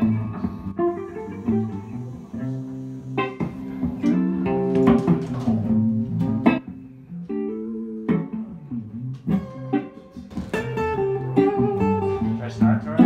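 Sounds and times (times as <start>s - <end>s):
archtop guitars playing: 0.0s - 13.0s.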